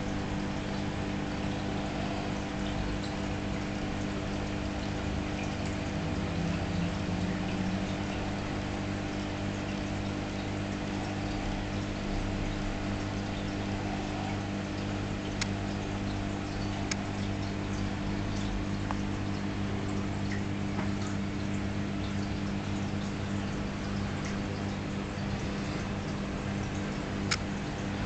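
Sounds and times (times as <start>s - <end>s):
pump humming: 0.0s - 28.0s
water trickling: 0.0s - 28.0s.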